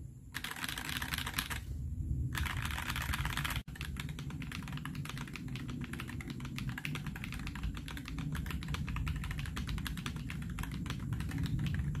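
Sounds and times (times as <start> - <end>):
typing on mechanical keyboard: 0.4 - 1.6, 2.4 - 12.0.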